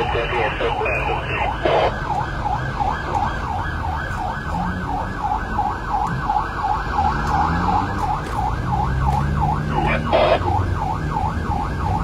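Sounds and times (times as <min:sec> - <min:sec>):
electronic siren yelping: 0:00.0 - 0:12.0
engine and road rumble: 0:00.0 - 0:12.0.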